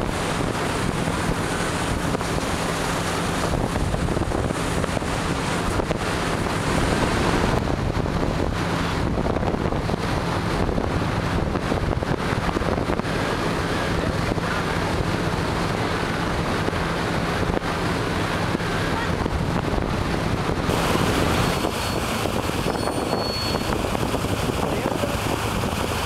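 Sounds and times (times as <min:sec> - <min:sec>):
boat engine humming: 0:00.0 - 0:26.0
wind buffeting microphone: 0:00.0 - 0:26.0.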